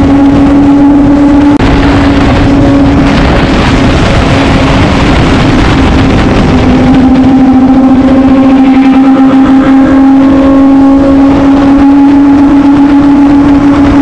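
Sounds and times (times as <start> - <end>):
wind rush: 0.0 - 14.0.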